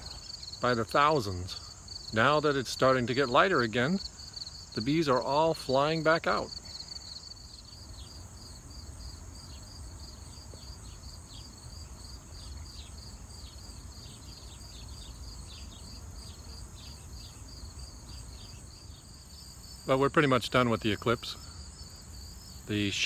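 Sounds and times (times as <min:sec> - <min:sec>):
crickets chirping: 0:00.0 - 0:23.0
high insect trill: 0:00.0 - 0:23.0.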